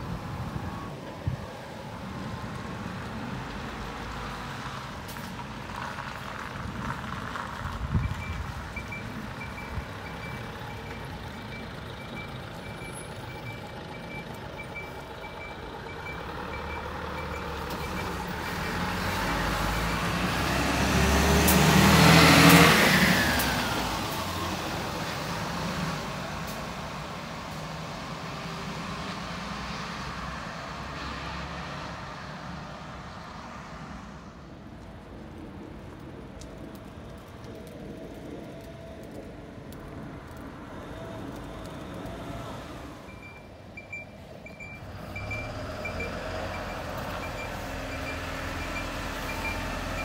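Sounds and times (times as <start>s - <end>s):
bus driving past: 0.0s - 50.0s.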